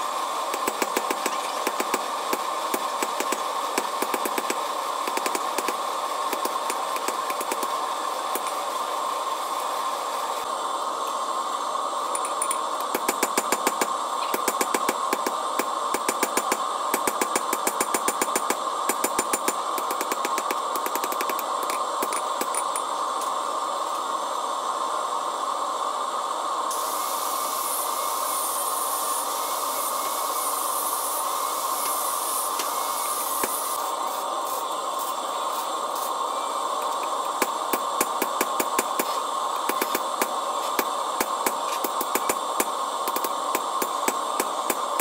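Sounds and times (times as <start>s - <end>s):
steady hiss: 0.0s - 45.0s.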